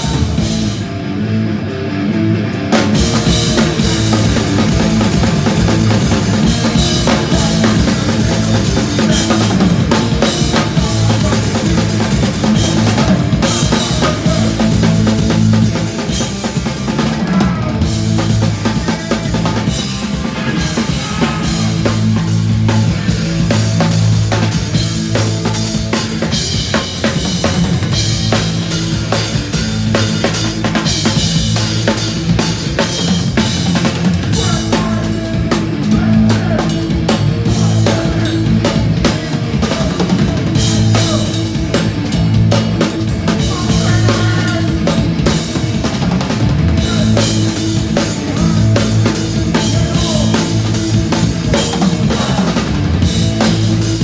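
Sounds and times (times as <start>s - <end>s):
drum kit: 0.0s - 54.0s
punk band playing live: 0.0s - 54.0s.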